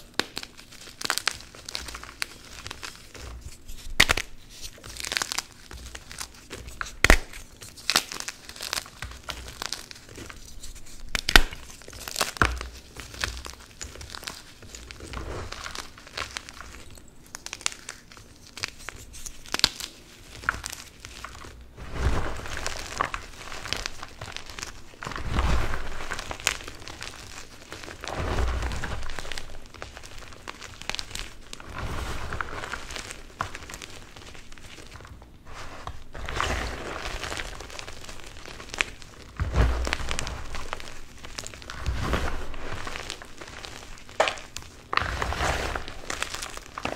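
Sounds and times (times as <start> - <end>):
chalk snapping and crumbling: 0.0 - 46.9
hands crunching loose chalk: 0.0 - 46.9.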